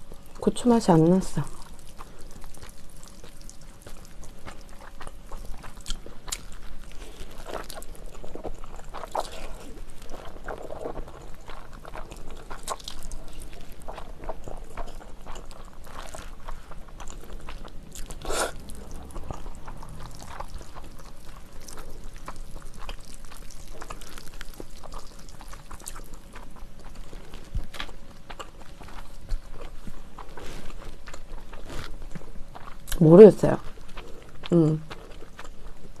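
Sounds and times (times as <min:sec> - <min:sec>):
slurping and chewing noodles: 0:01.1 - 0:36.0.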